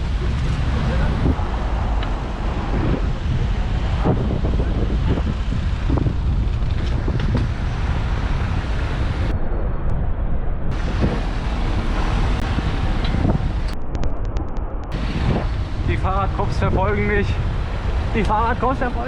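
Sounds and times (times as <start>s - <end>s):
road traffic: 0.0s - 9.4s, 10.7s - 19.0s
wind buffeting microphone: 0.0s - 19.0s.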